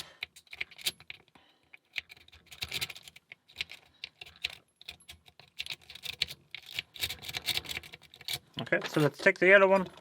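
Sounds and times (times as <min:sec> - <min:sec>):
padlocks and lock picks clinking: 0:00.0 - 0:09.1.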